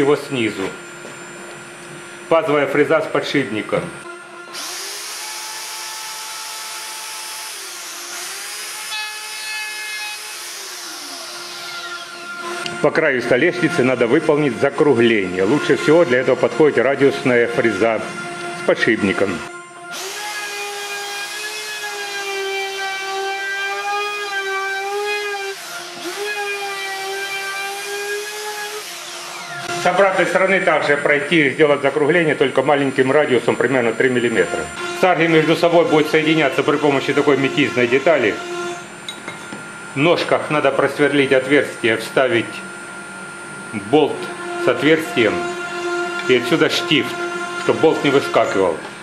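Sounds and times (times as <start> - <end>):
router whining while cutting wood: 0.0 - 2.7, 3.4 - 39.1, 39.8 - 49.0.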